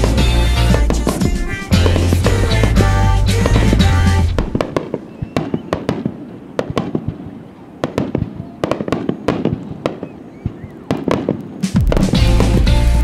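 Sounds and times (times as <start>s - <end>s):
firework shell bursts: 0.0s - 7.3s, 7.9s - 12.7s.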